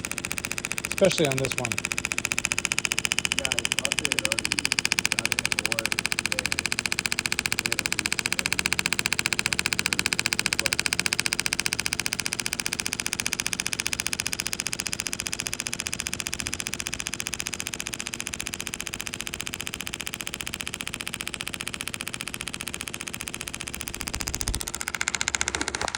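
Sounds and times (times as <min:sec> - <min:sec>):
therapy machine clicking pulses: 0:00.0 - 0:25.9.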